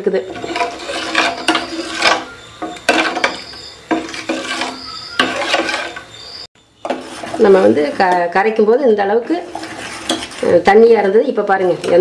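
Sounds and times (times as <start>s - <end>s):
spoon scraping metal pot: 0.0s - 12.0s.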